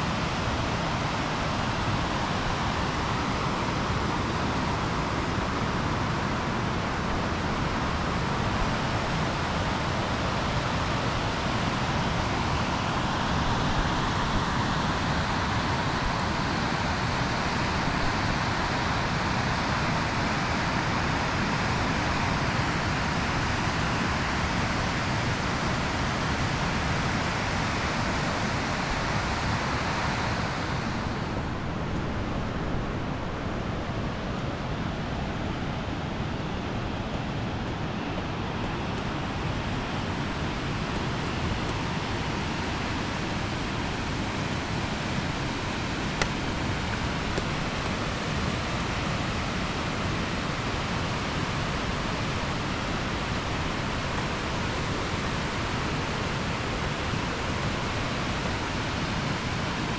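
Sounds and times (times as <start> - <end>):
river rushing: 0.0 - 59.9.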